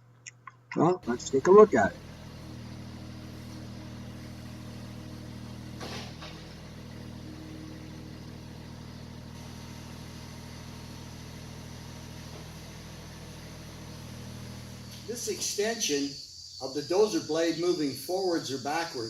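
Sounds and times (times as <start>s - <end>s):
skid steer engine running: 1.0s - 19.0s.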